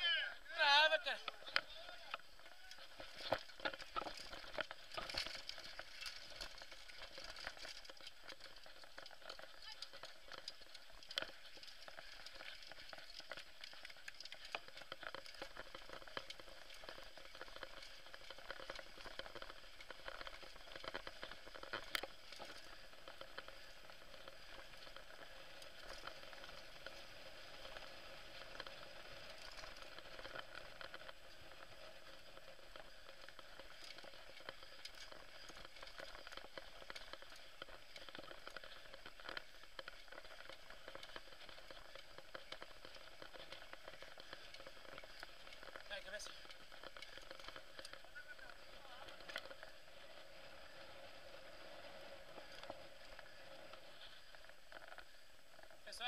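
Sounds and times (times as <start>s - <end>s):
bike tyres rolling over dirt: 0.0s - 56.0s.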